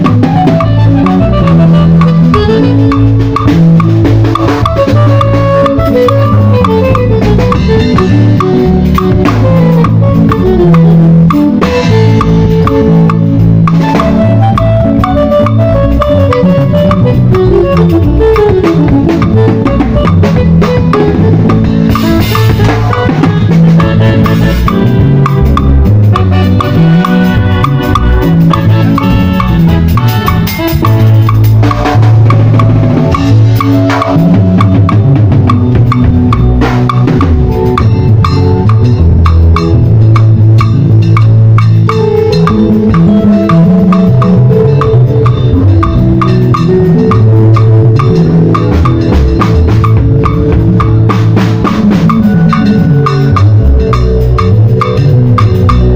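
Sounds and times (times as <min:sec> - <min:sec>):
drum kit groove: 0:00.0 - 0:55.9
music with held bass notes: 0:00.0 - 0:55.9.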